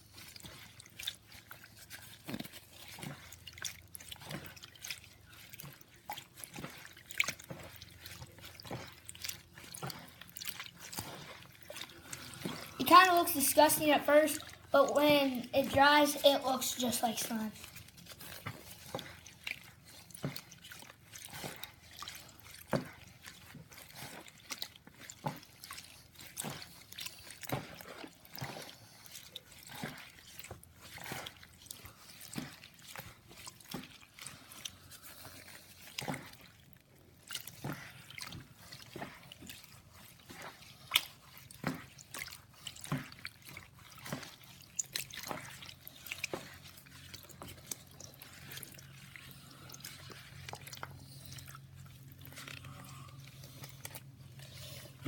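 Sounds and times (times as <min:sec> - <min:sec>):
slime squelching: 0:00.0 - 0:55.0.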